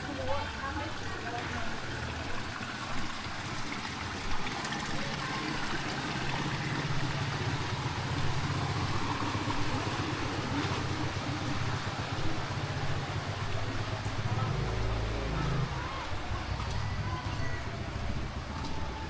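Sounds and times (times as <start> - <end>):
running water hiss: 0.0 - 18.6
low engine hum: 0.0 - 19.0.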